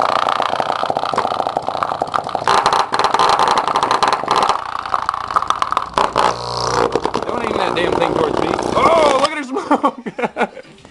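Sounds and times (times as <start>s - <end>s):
subwoofers crackling buzz: 0.0s - 9.3s.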